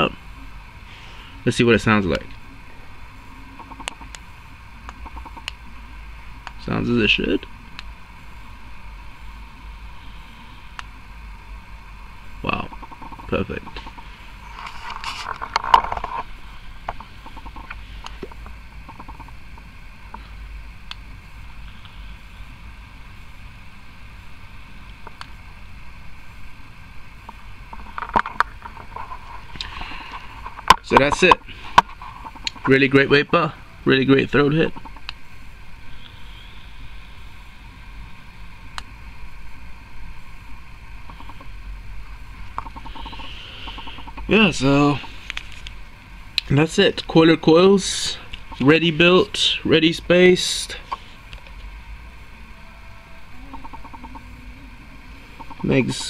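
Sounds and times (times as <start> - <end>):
coil crackling and hissing: 0.0 - 56.0.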